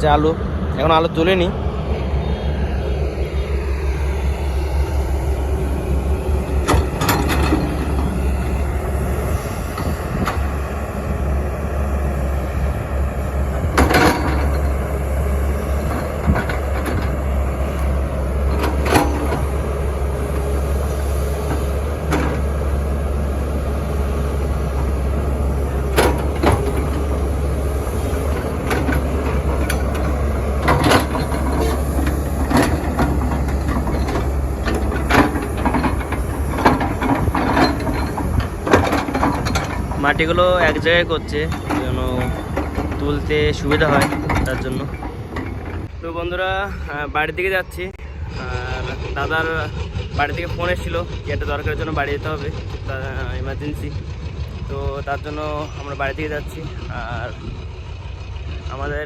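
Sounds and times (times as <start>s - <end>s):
diesel machinery and trucks rumbling: 0.0s - 59.0s.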